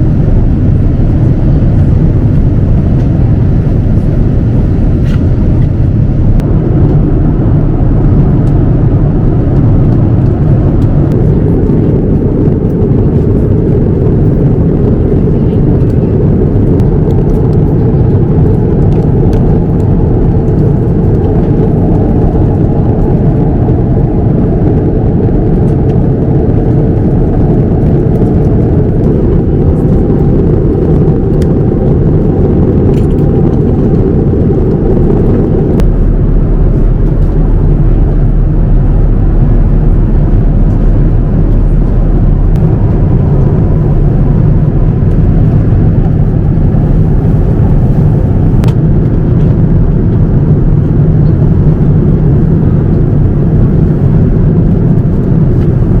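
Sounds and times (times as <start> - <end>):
airliner cabin engine noise: 0.0 - 56.0.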